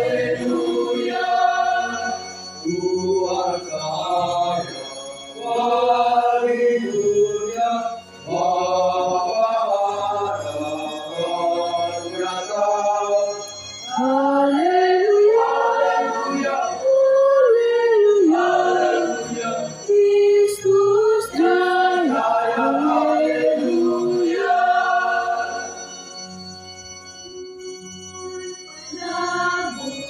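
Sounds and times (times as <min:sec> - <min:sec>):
choir singing a hymn: 0:00.0 - 0:26.2, 0:28.3 - 0:30.0.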